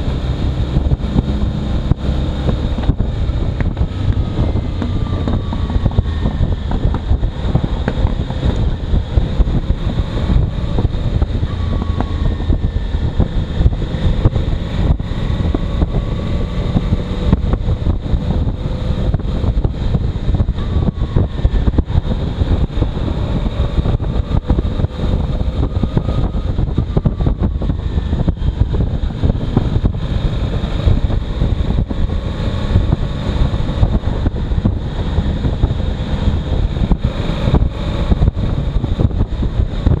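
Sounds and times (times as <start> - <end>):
faint motorcycle engine drone: 0.0 - 40.0
wind buffeting microphone: 0.0 - 40.0.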